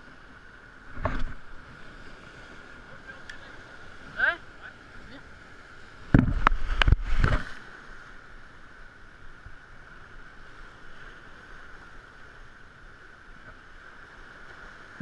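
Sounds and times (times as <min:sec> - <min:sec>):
sea washing on shore: 0:00.0 - 0:15.0
wind: 0:00.0 - 0:15.0.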